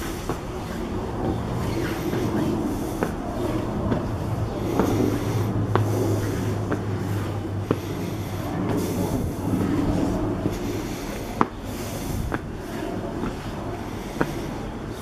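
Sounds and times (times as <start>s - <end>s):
footsteps on concrete stairs: 0.0s - 15.0s
steady low hum: 0.0s - 15.0s.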